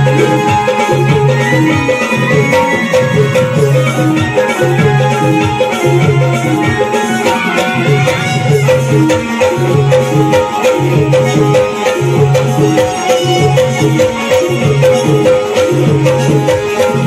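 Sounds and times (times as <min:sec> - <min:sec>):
hand drum rhythm: 0:00.0 - 0:17.0
keyboard melody: 0:00.0 - 0:17.0.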